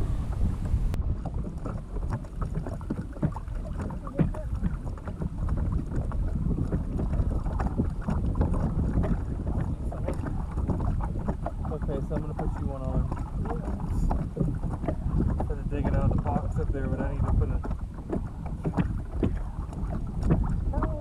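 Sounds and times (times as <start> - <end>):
water lapping against kayak hull: 0.0 - 21.0
wind buffeting microphone: 0.0 - 21.0.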